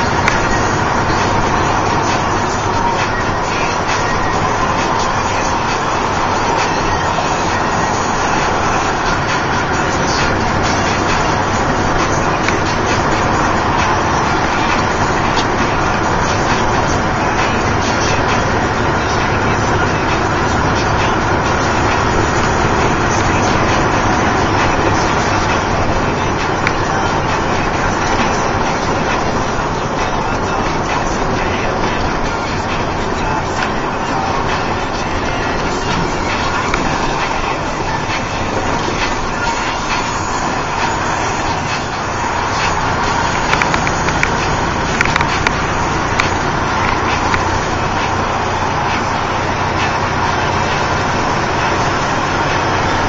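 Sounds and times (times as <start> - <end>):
truck engine and tyre noise: 0.0 - 53.0.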